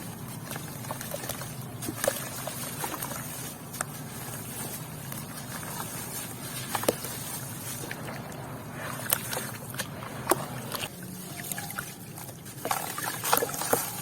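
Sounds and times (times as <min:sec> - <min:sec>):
wet cement crumbling crackles: 0:00.0 - 0:14.0.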